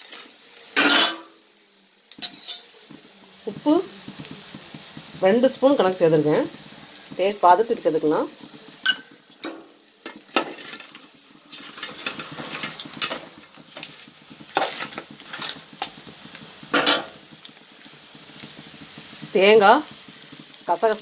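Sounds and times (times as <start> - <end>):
low sizzle: 0.0 - 21.0.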